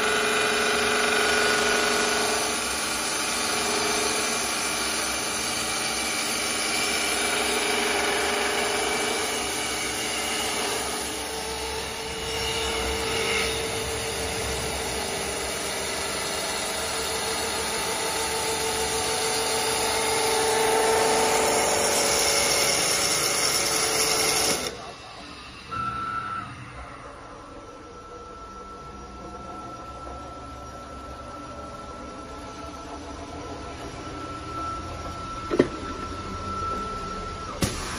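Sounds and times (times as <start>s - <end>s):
lathe motors whirring: 0.0s - 37.9s.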